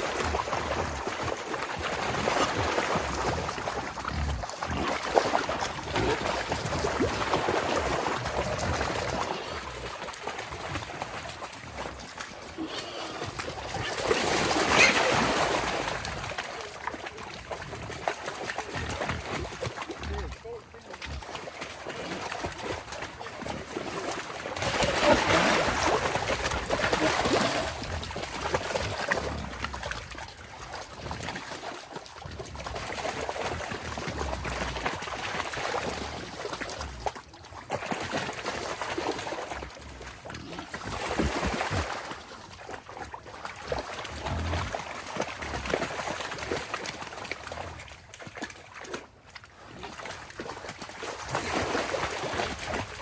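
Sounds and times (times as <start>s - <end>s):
muddy water sloshing and splashing: 0.0s - 53.0s.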